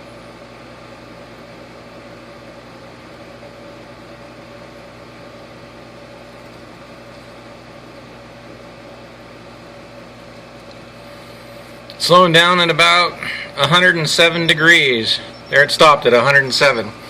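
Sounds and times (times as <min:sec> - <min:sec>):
water heater humming: 0:00.0 - 0:17.0.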